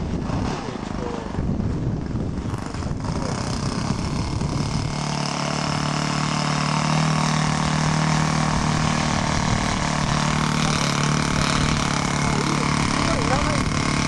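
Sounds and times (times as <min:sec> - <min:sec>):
light aircraft engine and propeller: 0:02.1 - 0:14.0.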